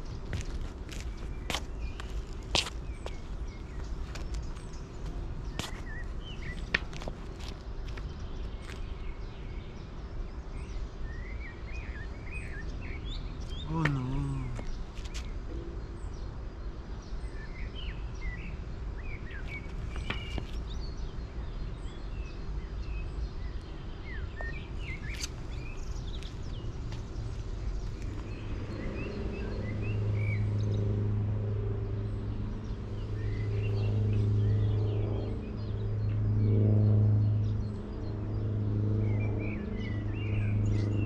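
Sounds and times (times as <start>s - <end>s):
birds chirping: 0.0s - 31.0s, 31.8s - 41.0s
outdoor background noise: 0.0s - 41.0s.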